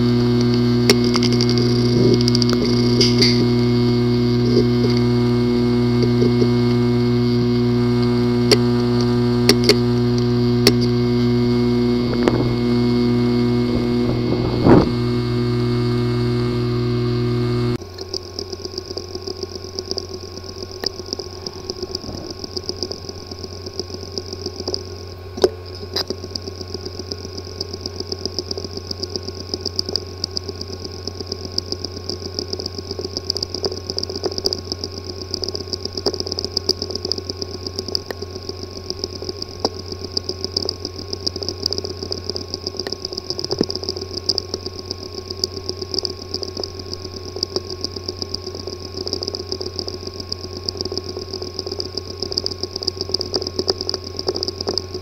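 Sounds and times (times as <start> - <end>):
hard drive clicking buzz: 0.0 - 55.0
hard drive hum: 0.0 - 55.0.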